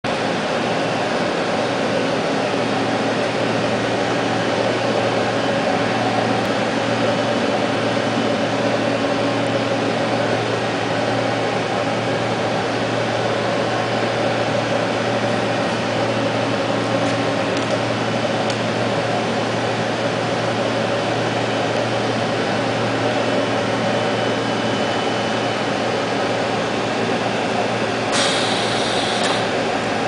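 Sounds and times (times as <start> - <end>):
machine humming with fan hiss: 0.1 - 30.0.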